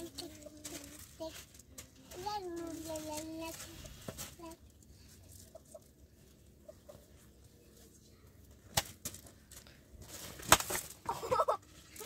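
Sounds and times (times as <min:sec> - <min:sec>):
rustling noise: 0:00.0 - 0:12.0.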